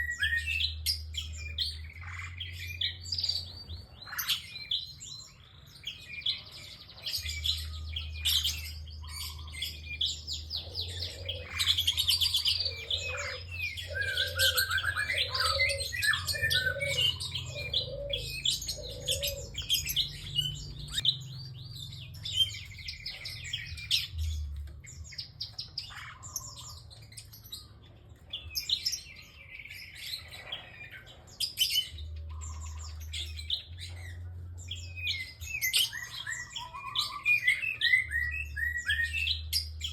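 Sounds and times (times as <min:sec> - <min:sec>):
bird singing with chirps and trills: 0:00.0 - 0:39.9.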